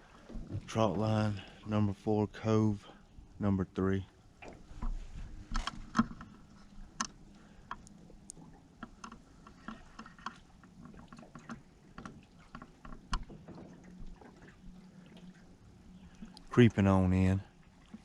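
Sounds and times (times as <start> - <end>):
faint steady hum: 0.0 - 18.0
light water sounds: 0.0 - 18.0.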